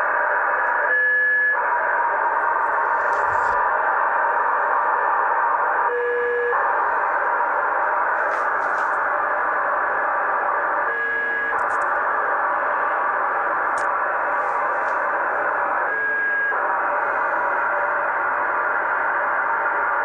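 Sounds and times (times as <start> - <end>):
radio hiss with data signal: 0.0 - 20.0.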